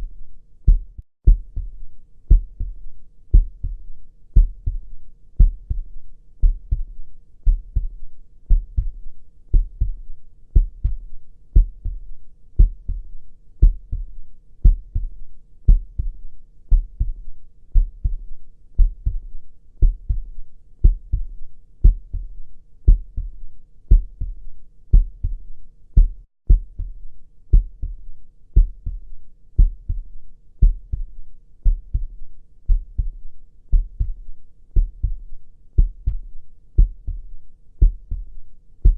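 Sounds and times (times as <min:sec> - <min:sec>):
heartbeat lub-dub: 0:00.0 - 0:38.9.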